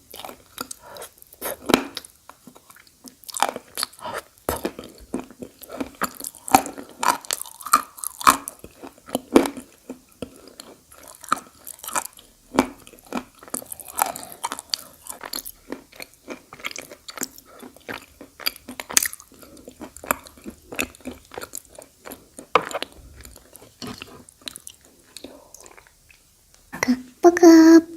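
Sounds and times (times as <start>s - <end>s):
person chewing crunchy clay: 0.0s - 26.2s.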